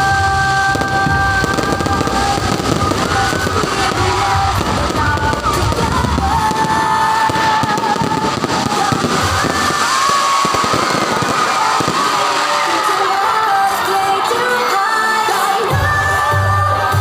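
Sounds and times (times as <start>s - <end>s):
fireworks crackling and popping: 0.0s - 14.1s
music playing: 0.0s - 17.0s.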